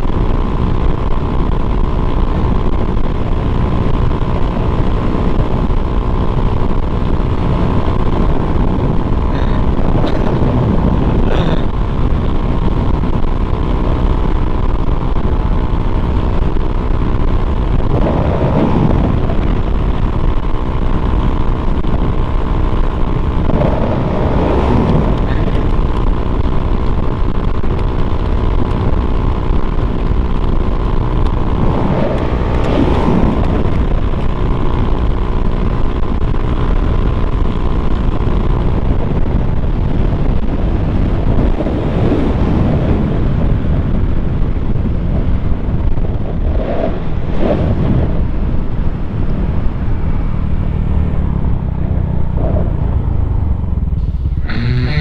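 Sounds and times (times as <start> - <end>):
scooter engine at full speed: 0.0 - 55.0
wind on microphone: 0.0 - 55.0.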